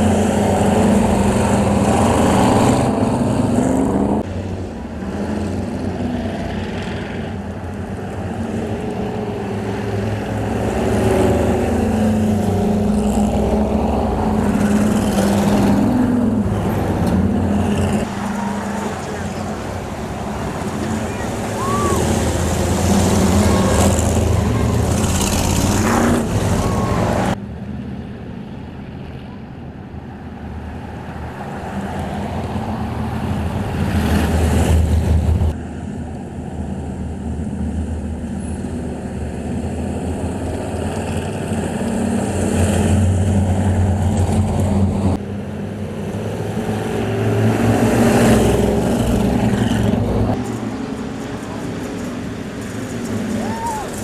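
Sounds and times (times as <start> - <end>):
racing truck engines passing: 0.0 - 54.0.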